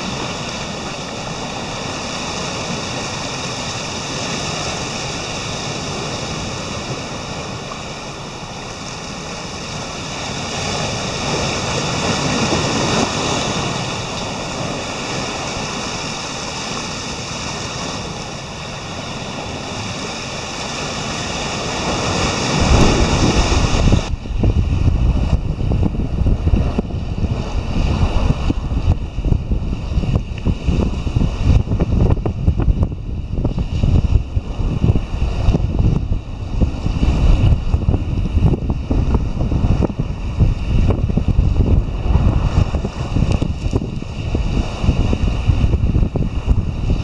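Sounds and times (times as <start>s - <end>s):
surf breaking over rocks: 0.0s - 47.0s
wind buffeting microphone: 0.0s - 47.0s.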